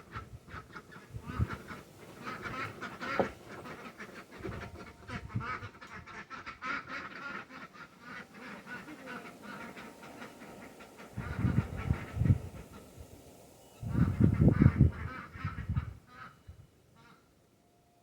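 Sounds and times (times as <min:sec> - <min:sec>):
ducks quacking: 0:00.0 - 0:17.3.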